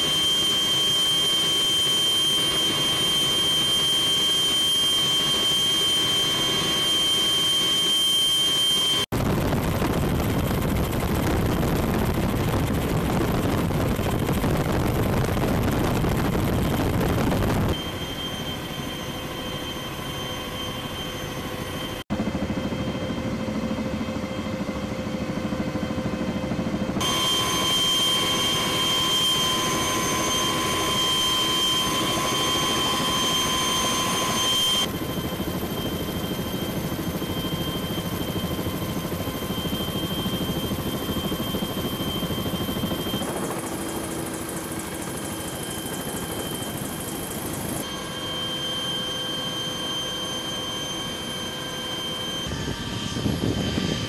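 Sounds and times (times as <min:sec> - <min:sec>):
helicopter rotor and engine noise: 0:00.0 - 0:54.0
high turbine whine: 0:00.0 - 0:54.0.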